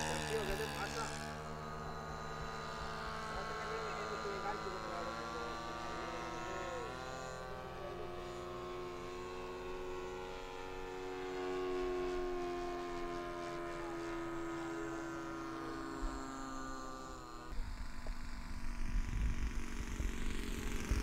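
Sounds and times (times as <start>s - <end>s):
model airplane engine drone: 0.0s - 21.0s.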